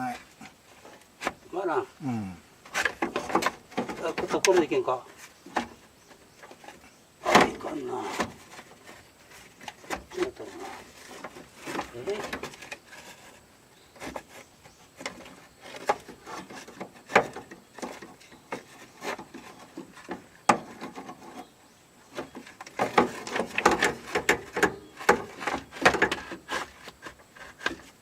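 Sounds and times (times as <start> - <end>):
hard parts knocking and scraping: 2.6 - 28.0.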